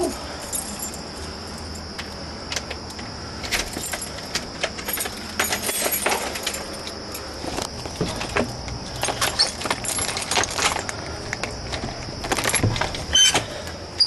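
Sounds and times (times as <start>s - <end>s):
keys jangling: 0.0s - 13.4s.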